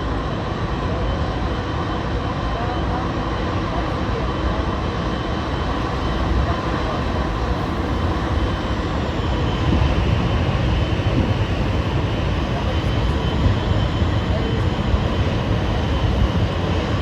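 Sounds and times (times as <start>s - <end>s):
jet aircraft noise: 0.0s - 17.0s.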